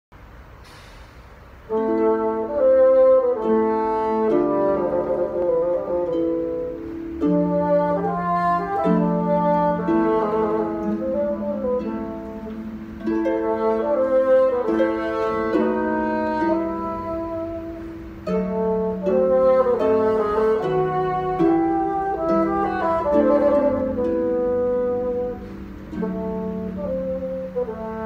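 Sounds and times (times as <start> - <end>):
bassoon melody: 1.7 - 28.0
plucked harp: 1.7 - 28.0.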